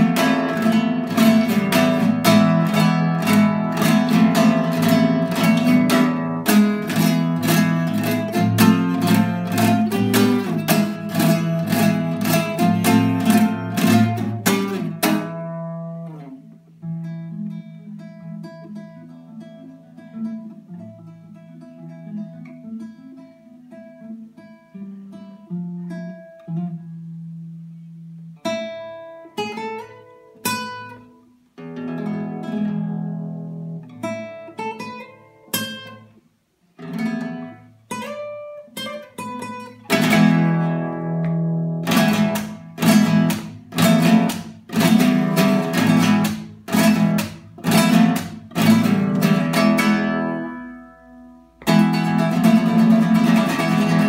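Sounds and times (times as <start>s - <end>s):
classical guitar playing: 0.0s - 54.0s.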